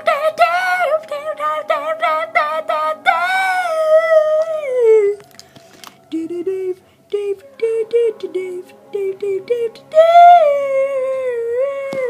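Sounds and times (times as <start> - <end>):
high-pitched voice singing: 0.0 - 5.2, 6.1 - 12.0.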